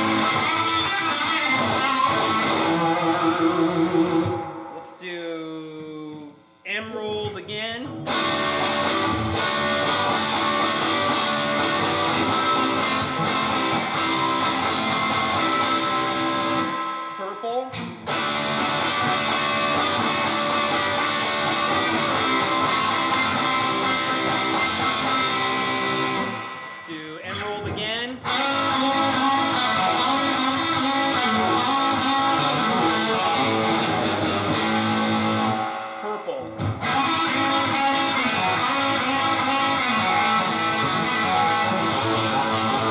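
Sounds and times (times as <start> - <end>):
distorted electric guitar chords: 0.0 - 42.9.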